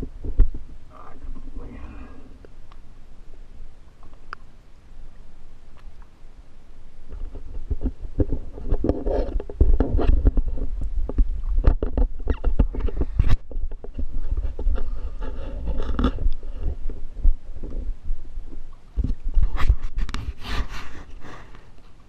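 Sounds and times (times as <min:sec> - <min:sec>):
low rumble: 0:00.0 - 0:19.5.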